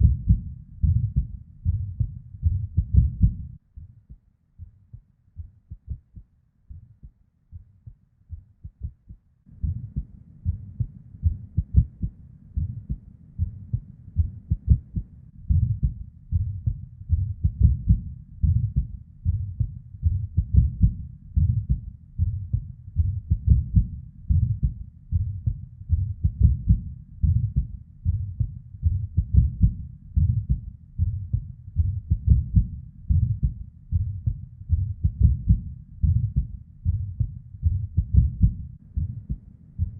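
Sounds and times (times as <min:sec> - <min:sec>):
irregular heartbeat: 0:00.0 - 0:39.9.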